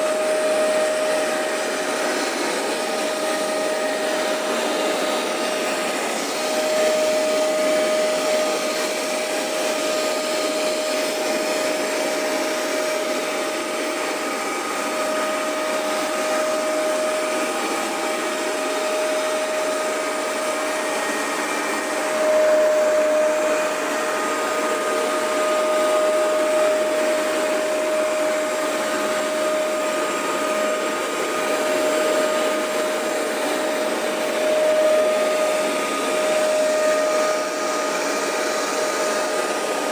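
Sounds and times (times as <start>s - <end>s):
carpet cleaner motor drone: 0.0s - 39.9s.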